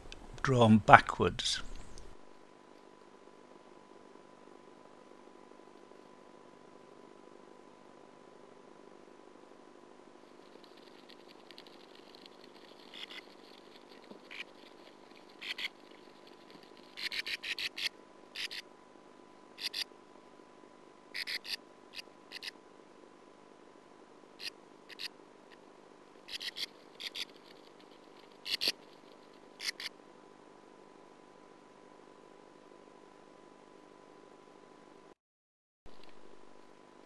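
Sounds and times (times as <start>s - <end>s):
steady hum: 0.0s - 35.1s, 35.9s - 37.0s.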